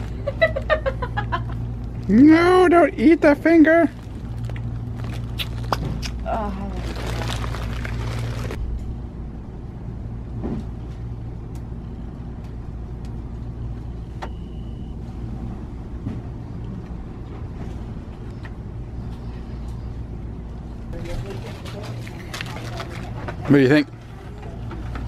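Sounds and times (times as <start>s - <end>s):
shop interior hum: 0.0s - 25.0s.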